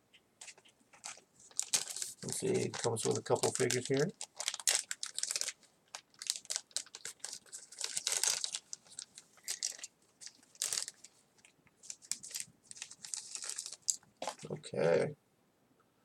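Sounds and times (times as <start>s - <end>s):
plastic packaging crinkling and tearing: 0.4s - 14.5s.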